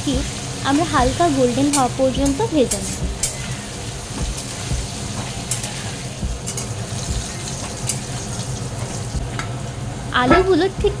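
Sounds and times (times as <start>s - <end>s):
potatoes sizzling in oil: 0.0s - 10.8s.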